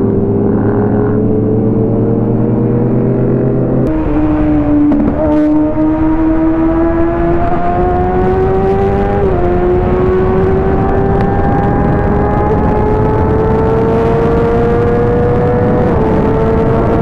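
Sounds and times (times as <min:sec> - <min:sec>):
motorcycle engine accelerating: 0:00.0 - 0:17.0
wind and road rush: 0:00.0 - 0:17.0.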